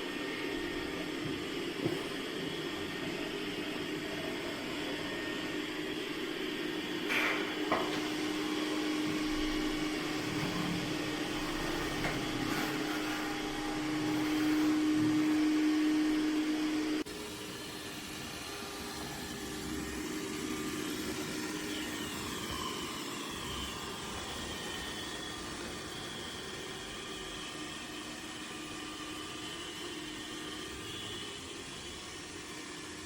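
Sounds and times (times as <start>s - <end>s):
robot vacuum humming: 0.0s - 33.0s.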